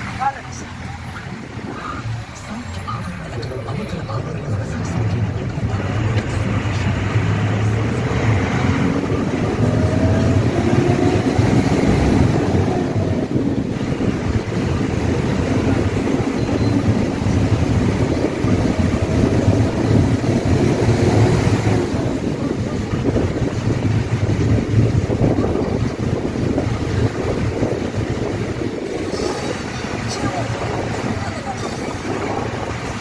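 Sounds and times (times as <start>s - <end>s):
vehicle engine and road noise: 0.0s - 33.0s
wind buffeting microphone: 0.0s - 33.0s.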